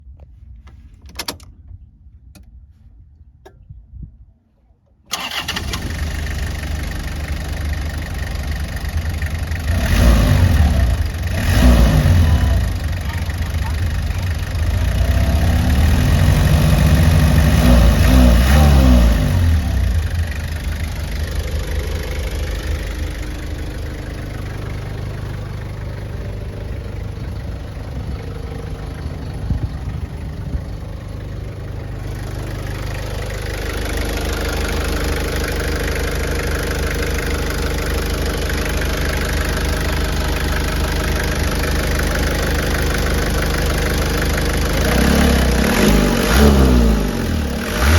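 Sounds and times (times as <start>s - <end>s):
diesel engine revving and idling: 5.1s - 47.9s.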